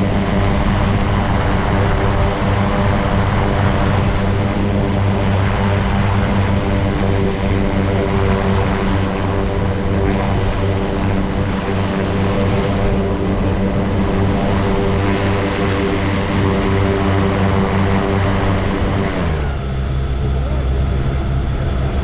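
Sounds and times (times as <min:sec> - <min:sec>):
wind rushing over microphone: 0:00.0 - 0:19.6
aircraft engine and propeller running: 0:00.0 - 0:22.0.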